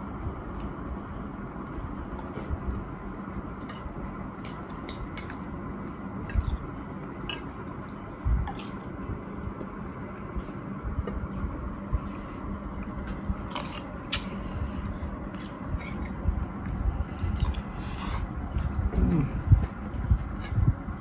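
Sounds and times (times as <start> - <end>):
background hum: 0.0 - 21.0.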